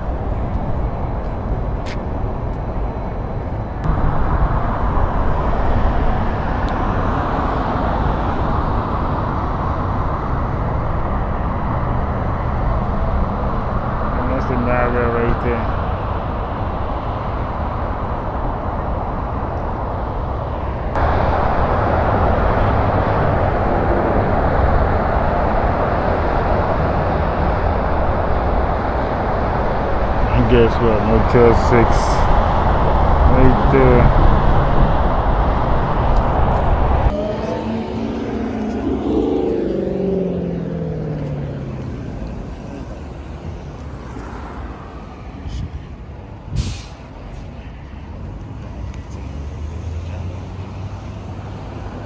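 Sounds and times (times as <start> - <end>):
freeway traffic noise: 0.0 - 52.0
motor vehicle passing: 0.0 - 52.0.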